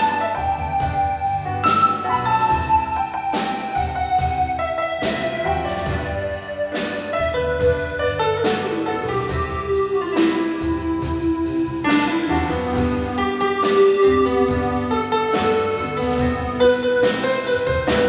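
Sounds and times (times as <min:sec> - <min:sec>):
piano chords: 0:00.0 - 0:18.0.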